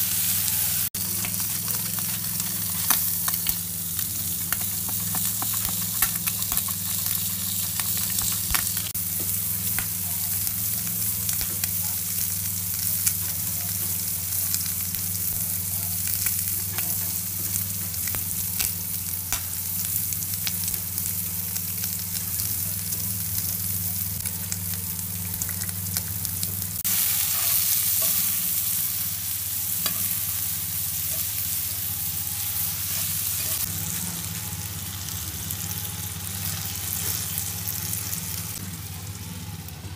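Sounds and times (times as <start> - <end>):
beef and onions sizzling: 0.0 - 39.7.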